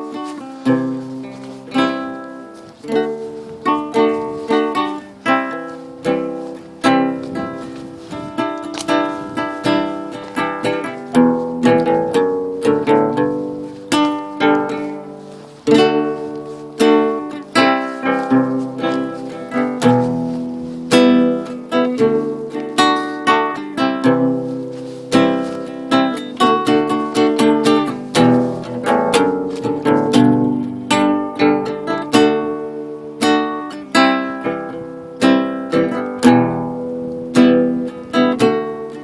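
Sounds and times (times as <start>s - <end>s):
solo guitar chords and notes: 0.0s - 39.0s.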